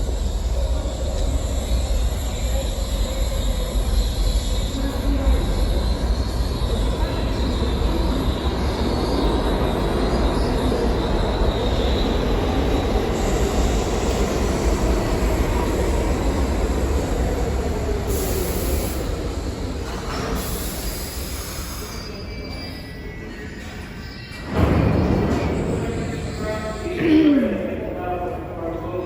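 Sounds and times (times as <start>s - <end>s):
train wheel squeal: 0.0s - 27.2s
subway train on rails: 0.0s - 29.0s.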